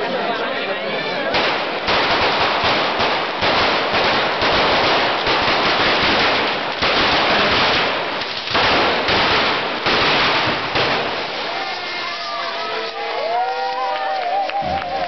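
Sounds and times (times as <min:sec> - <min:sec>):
firecrackers crackling: 0:01.2 - 0:15.0.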